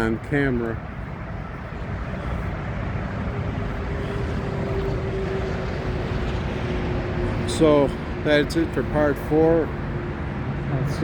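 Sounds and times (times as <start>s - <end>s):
distant highway traffic rumble: 0.0s - 11.0s.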